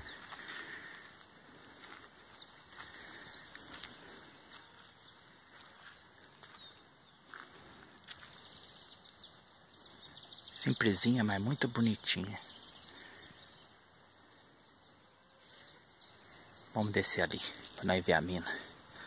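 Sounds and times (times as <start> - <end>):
rural outdoor ambience: 0.0 - 19.0.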